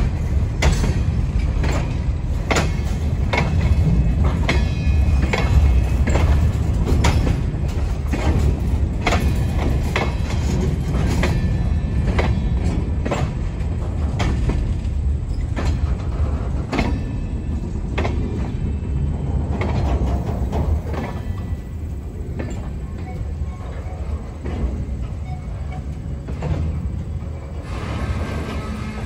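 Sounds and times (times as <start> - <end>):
freight train rumbling past: 0.0 - 29.0
wheels clicking over rail joints: 0.0 - 29.0.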